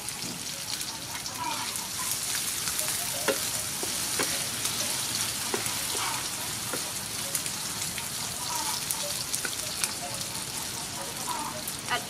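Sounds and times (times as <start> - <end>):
sea snail frying in oil: 0.0 - 12.0
wooden spatula stirring in pan: 1.6 - 11.5.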